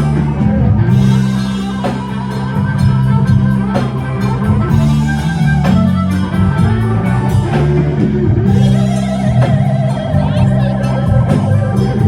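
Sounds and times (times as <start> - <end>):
blues band playing: 0.0 - 12.0.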